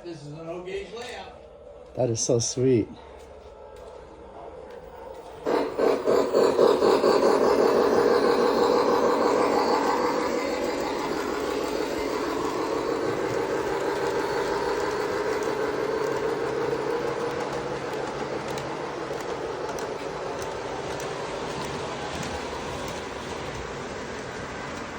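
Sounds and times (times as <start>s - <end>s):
model train hum and rumble: 0.0s - 24.9s.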